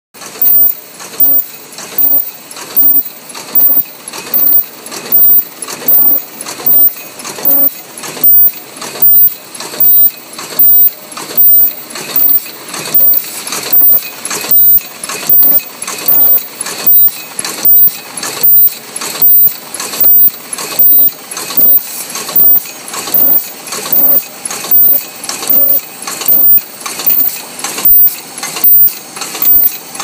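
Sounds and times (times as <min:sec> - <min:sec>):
machine loud sharp bursts: 0:00.2 - 0:30.0
machine running noise: 0:00.2 - 0:30.0.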